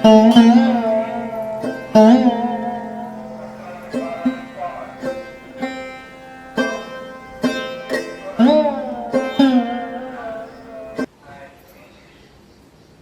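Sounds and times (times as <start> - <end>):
plucked string instrument: 0.0 - 11.1
steady drone: 0.0 - 11.1.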